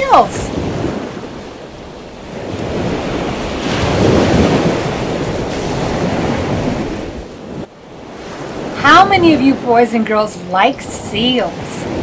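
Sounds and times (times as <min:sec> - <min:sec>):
ocean waves rushing: 0:00.0 - 0:12.0.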